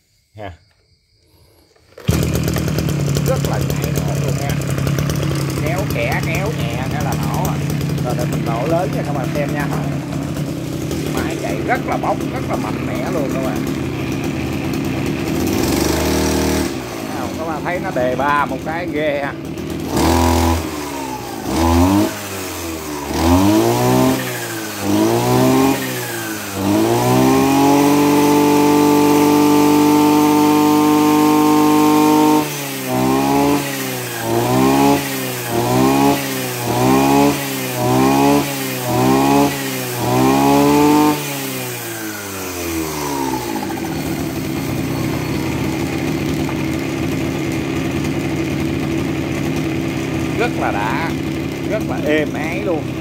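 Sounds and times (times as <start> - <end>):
brush cutter engine revving: 1.4 - 53.0.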